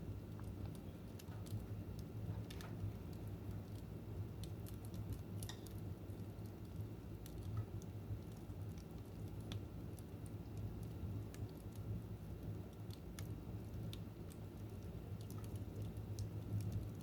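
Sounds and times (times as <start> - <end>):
fire crackling and popping: 0.3 - 17.0.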